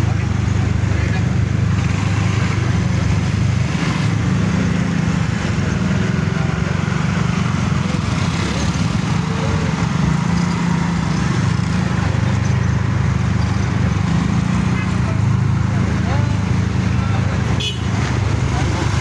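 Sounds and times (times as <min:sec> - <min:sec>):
scooter engines idling: 0:00.0 - 0:19.0.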